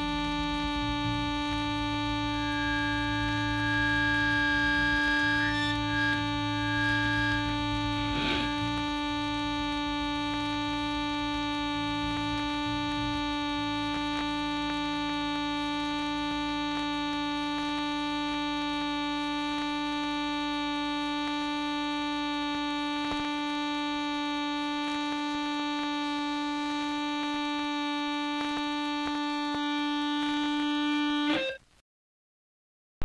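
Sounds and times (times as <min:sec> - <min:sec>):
droning note with overtones: 0:00.0 - 0:31.6.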